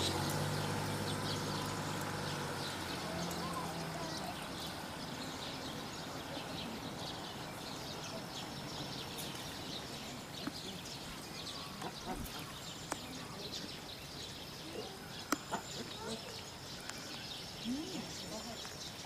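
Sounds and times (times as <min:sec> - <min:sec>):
background murmur: 0:00.0 - 0:19.0
distant voices: 0:00.0 - 0:19.0.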